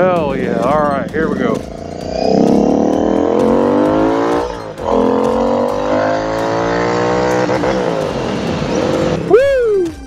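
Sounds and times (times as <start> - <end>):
motorcycle engine accelerating: 0.0 - 9.3.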